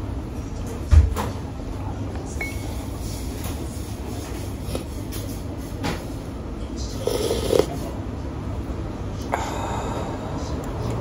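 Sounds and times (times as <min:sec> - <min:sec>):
low room rumble: 0:00.0 - 0:11.0.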